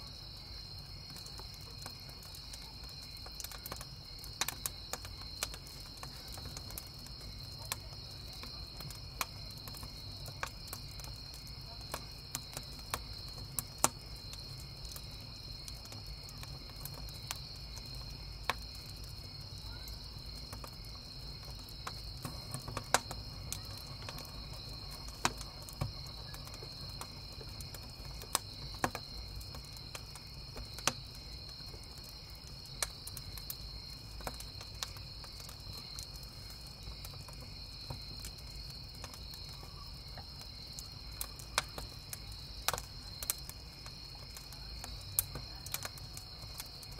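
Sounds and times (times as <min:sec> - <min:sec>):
campfire crackling and popping: 0:00.0 - 0:46.9
crickets chirping: 0:00.0 - 0:46.9
low fire rumble: 0:00.0 - 0:46.9.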